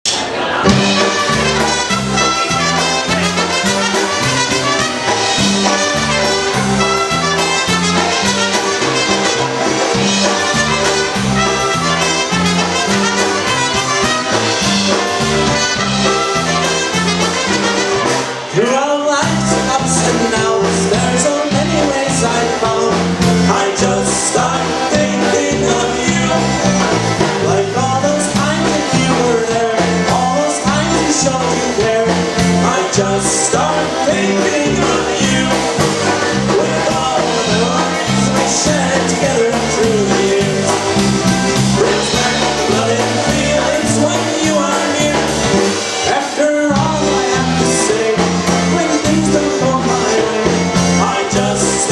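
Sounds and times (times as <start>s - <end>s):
polka band playing: 0.0s - 51.9s
person singing: 0.1s - 51.9s.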